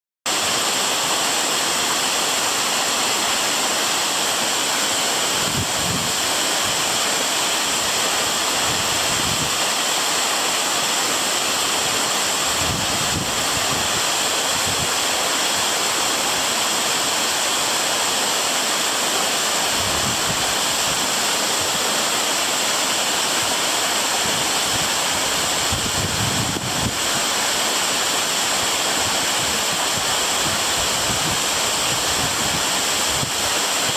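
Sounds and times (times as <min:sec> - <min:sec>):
waterfall rushing: 0:00.3 - 0:33.9.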